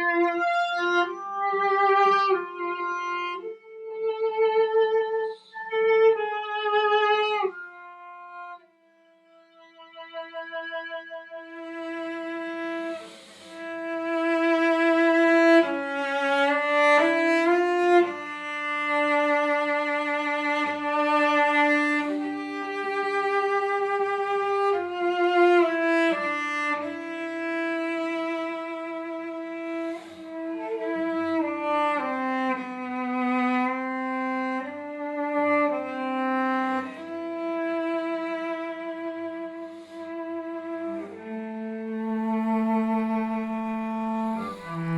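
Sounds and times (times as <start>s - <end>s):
bowed string instrument melody: 0.0s - 44.9s.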